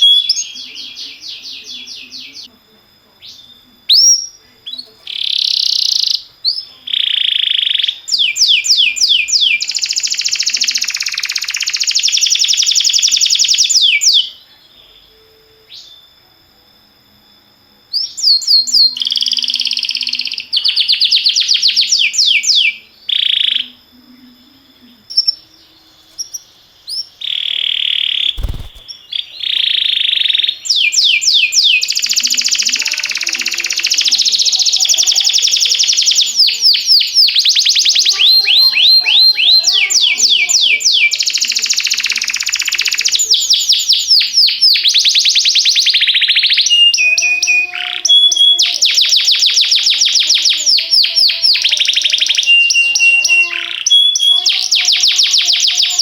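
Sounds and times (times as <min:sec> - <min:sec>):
canary singing trills: 0:00.0 - 0:02.5, 0:03.2 - 0:16.2, 0:17.8 - 0:56.0.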